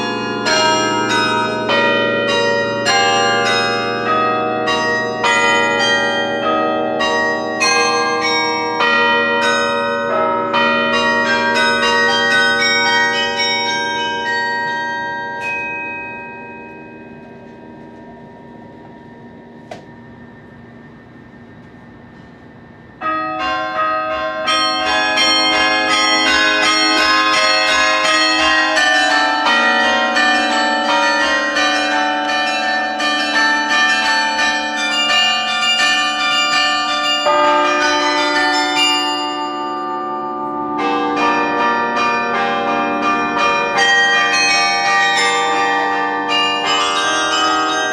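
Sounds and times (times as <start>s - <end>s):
carillon bells ringing: 0.0s - 47.9s.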